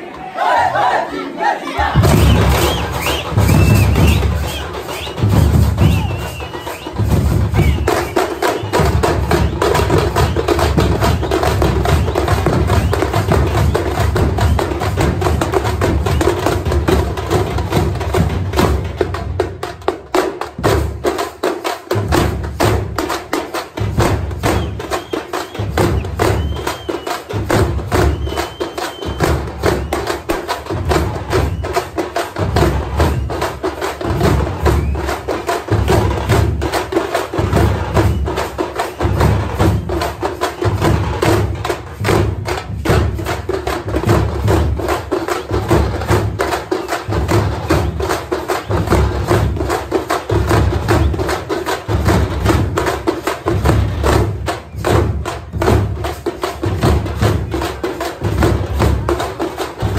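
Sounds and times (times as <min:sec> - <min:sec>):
deep barrel drum beats: 0:01.8 - 0:59.9
frame drums beaten with sticks: 0:01.8 - 0:59.9.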